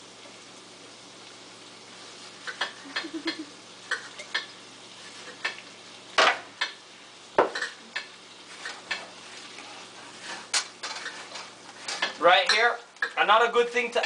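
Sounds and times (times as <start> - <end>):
faint sizzle: 0.0 - 14.0.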